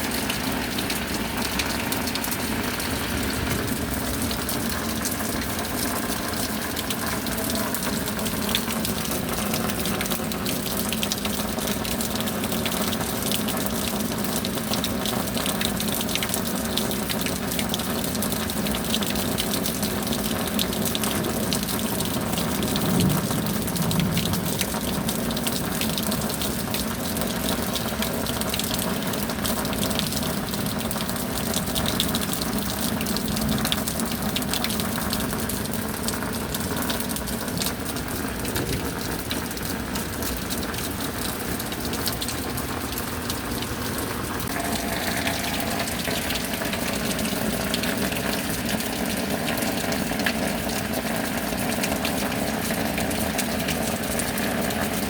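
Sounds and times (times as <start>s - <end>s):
steady rain: 0.0s - 55.0s
water running and splashing: 0.0s - 55.0s.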